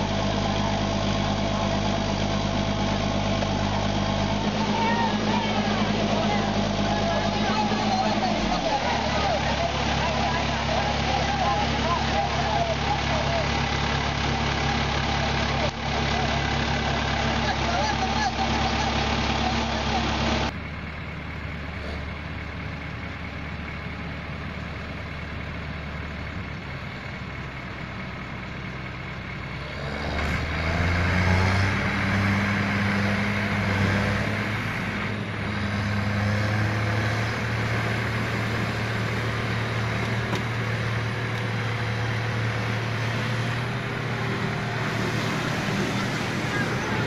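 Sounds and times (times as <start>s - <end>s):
heavy diesel truck engine revving: 0.0s - 47.0s.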